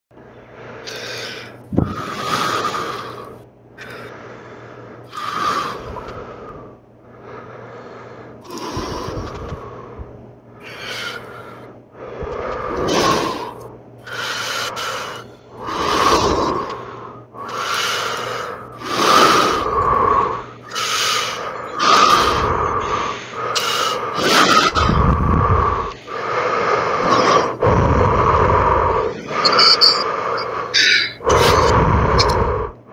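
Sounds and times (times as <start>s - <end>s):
heavy breathing: 0.2s - 32.9s.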